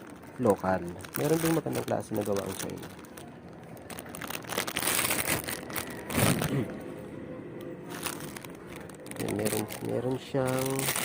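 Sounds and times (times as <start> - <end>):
plastic packaging crinkling: 0.0 - 6.6, 7.9 - 11.0.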